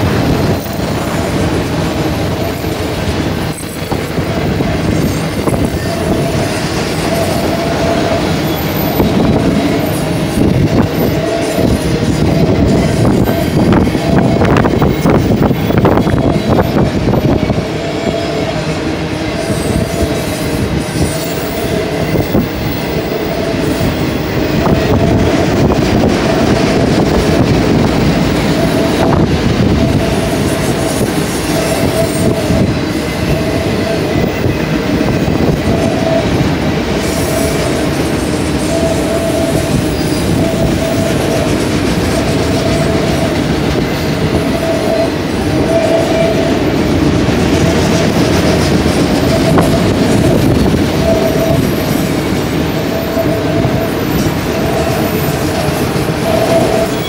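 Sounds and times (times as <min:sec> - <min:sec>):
train wheels rumbling on rails: 0:00.0 - 0:57.0
high tone: 0:03.6 - 0:36.4, 0:37.3 - 0:57.0.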